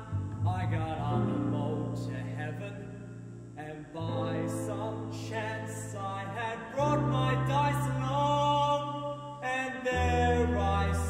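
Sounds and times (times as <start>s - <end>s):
held low notes: 0.0s - 11.0s
young man singing a show tune: 0.0s - 11.0s.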